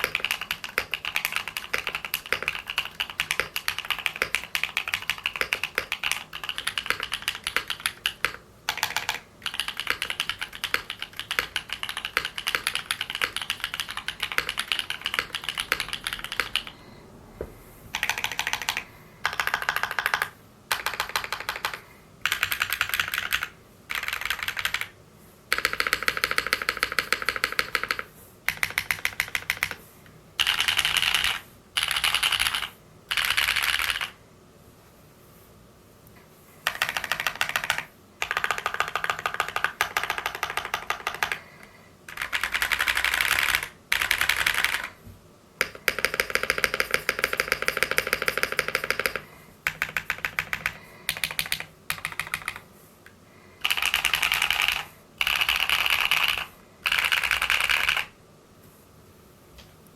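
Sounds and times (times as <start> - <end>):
typing on mechanical keyboard: 0.0 - 16.8, 17.9 - 29.8, 30.4 - 34.2, 36.6 - 45.0, 45.6 - 52.7, 53.6 - 58.2.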